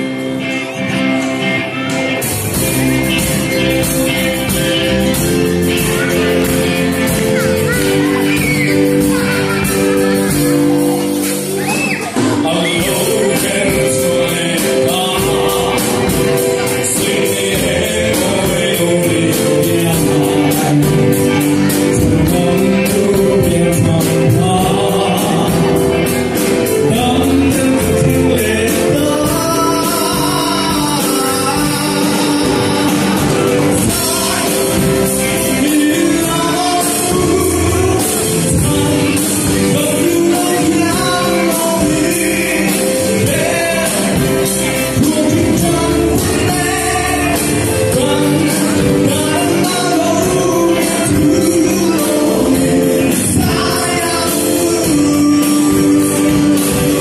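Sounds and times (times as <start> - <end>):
drum kit beat: 0.0 - 57.0
person singing: 0.0 - 57.0.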